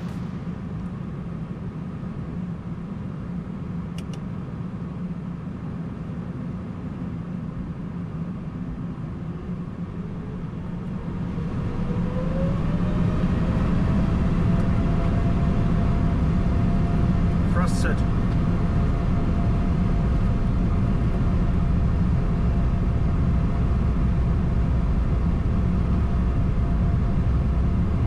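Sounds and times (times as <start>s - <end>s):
jet engine whine: 0.0s - 28.0s
low rumble in cockpit: 0.0s - 28.0s.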